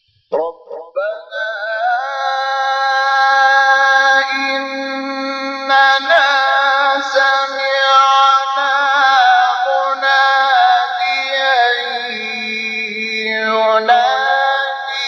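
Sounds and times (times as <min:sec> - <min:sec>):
man chanting melodically: 0:00.3 - 0:15.0.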